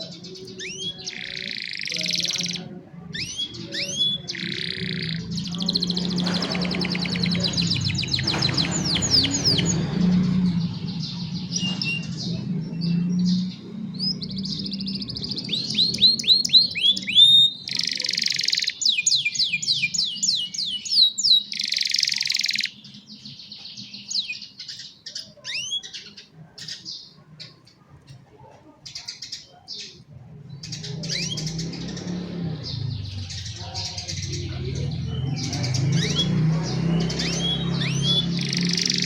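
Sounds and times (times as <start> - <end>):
canaries singing: 0.0 - 39.0.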